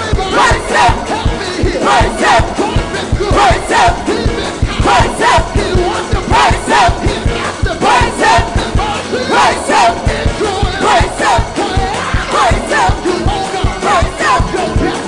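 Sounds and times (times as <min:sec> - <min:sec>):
congregation shouting: 0:00.0 - 0:15.0
fast gospel band music: 0:00.0 - 0:15.0.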